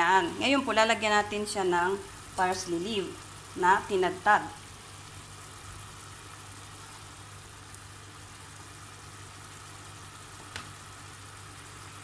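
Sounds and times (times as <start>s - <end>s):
food sizzling in a frying pan: 0.0s - 12.0s
low steady hum: 0.0s - 12.0s.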